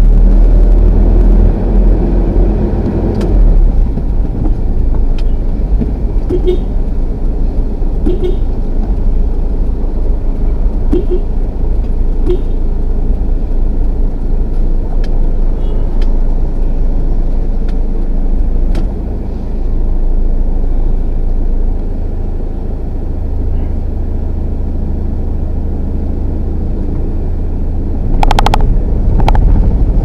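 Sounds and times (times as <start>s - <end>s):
truck engine low drone: 0.0s - 30.0s.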